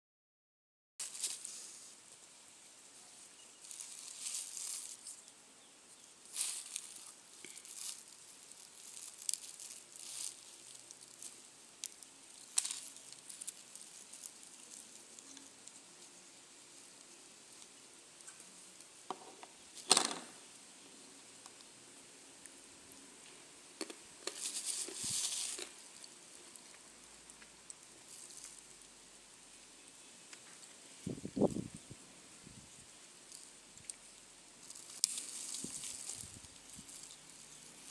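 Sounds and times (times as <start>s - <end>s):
plastic bag rustling and crinkling: 1.0s - 2.2s, 2.9s - 5.4s, 6.0s - 20.5s, 23.8s - 28.9s, 30.4s - 37.9s.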